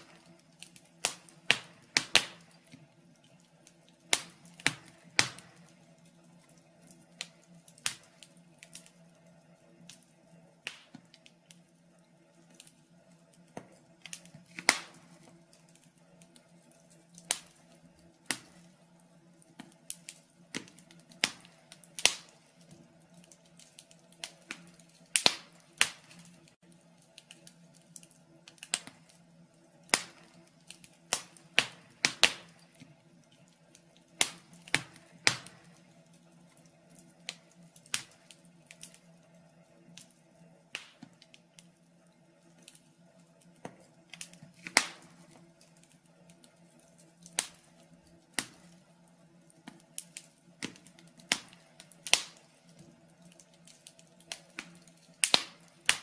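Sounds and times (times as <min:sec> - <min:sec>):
faint steady hum: 0:00.0 - 0:56.0
fire crackling in a fireplace: 0:00.0 - 0:56.0.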